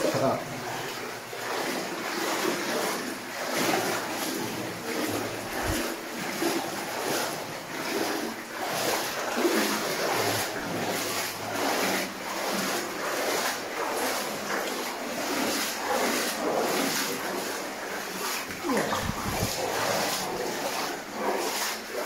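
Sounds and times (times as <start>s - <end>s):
water sloshing around wading legs: 0.0s - 22.0s.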